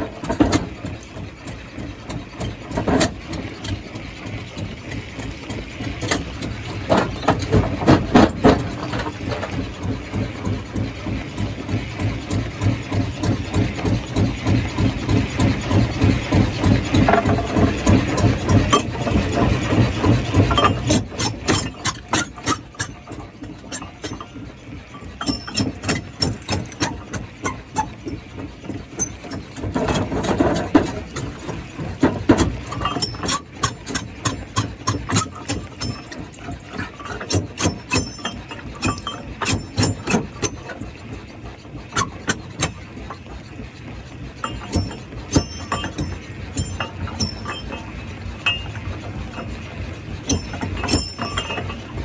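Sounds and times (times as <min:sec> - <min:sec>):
rocks clattering in crusher: 0:00.0 - 0:43.5, 0:44.4 - 0:49.6, 0:50.2 - 0:52.0
heavy engine running: 0:00.0 - 0:52.0.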